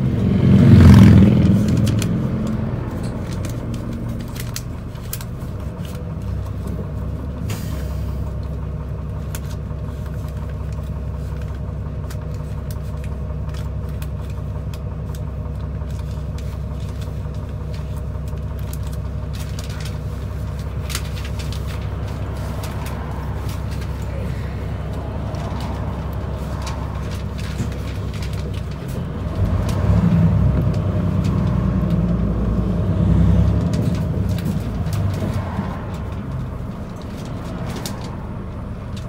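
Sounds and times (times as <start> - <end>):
bus engine idling: 0.0 - 39.0.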